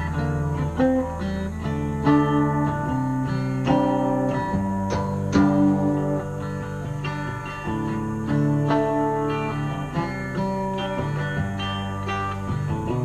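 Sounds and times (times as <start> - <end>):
guitar playing plucked notes: 0.0 - 13.0.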